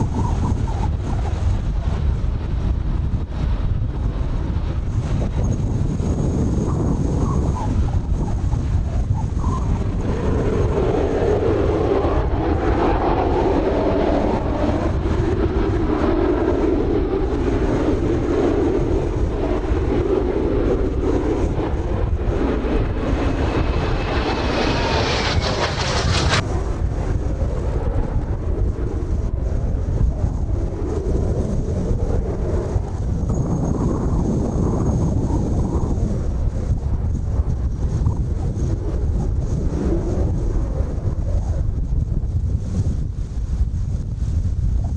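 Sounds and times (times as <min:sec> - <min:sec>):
jet engines flying overhead: 0:00.0 - 0:44.9
wind buffeting microphone: 0:00.0 - 0:44.9.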